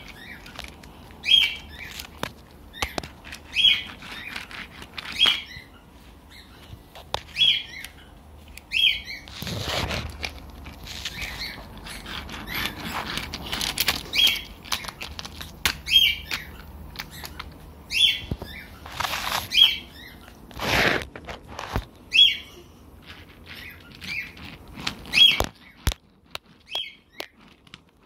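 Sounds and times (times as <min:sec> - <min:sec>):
rustling: 0:00.0 - 0:28.0.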